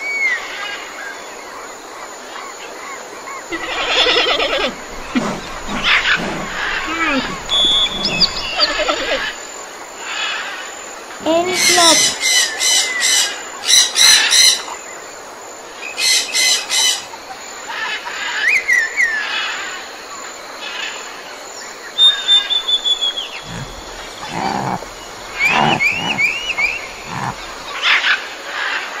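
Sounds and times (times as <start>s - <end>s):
birds chattering and chirping: 0.5s - 29.0s.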